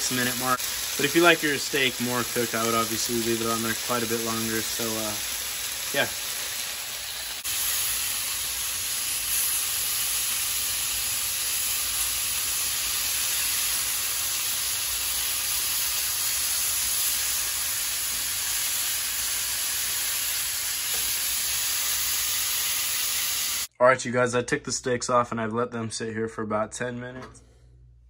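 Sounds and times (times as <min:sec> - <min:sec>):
steaks sizzling in a frying pan: 0:00.0 - 0:23.7.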